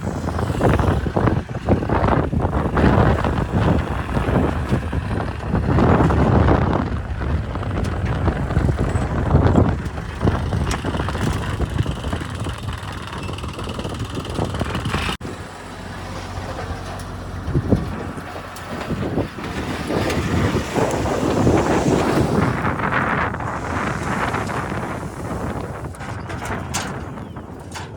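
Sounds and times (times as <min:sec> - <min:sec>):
wind on microphone: 0:00.0 - 0:15.4, 0:17.3 - 0:27.9
diesel engine under load: 0:00.0 - 0:27.9.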